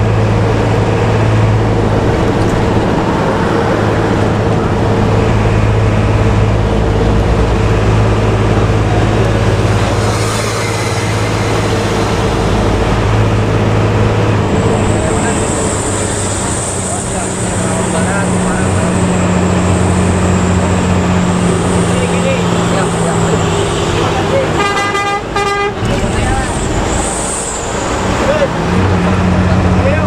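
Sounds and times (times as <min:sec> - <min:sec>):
bus engine drone: 0:00.0 - 0:30.0
road and tyre noise: 0:00.0 - 0:30.0.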